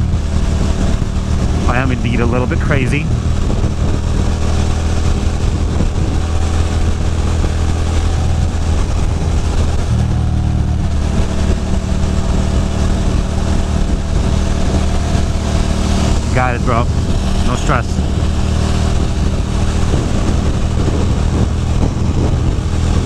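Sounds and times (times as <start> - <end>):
motorcycle engine running: 0.0 - 23.0
wind noise: 0.0 - 23.0.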